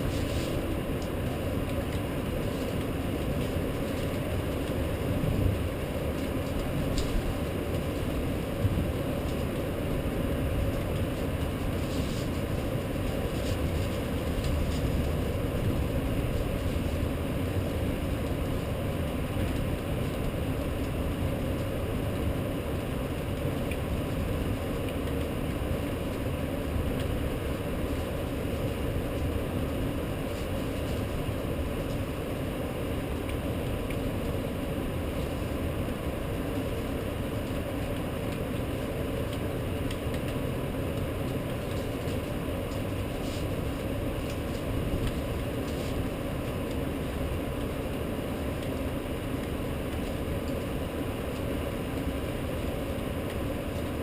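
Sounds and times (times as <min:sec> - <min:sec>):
rainstorm rumbling: 0:00.0 - 0:54.0.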